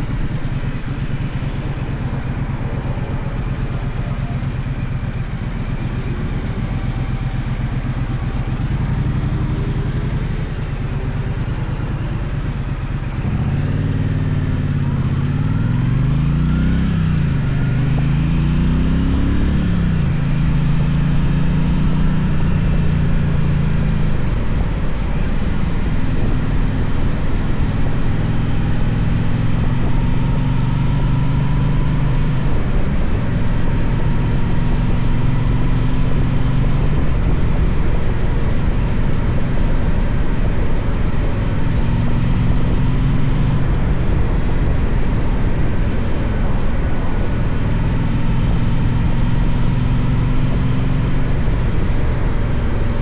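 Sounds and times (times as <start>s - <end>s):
motorcycle engine accelerating: 0.0s - 53.0s
wind and road noise: 0.0s - 53.0s.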